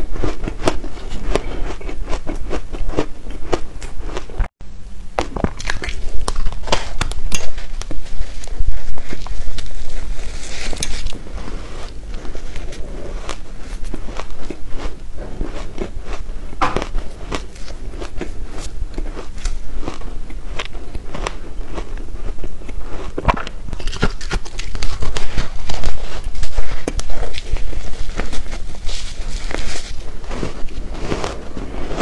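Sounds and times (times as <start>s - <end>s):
shaved ice crunching chewing: 0.0s - 4.4s, 5.4s - 32.0s.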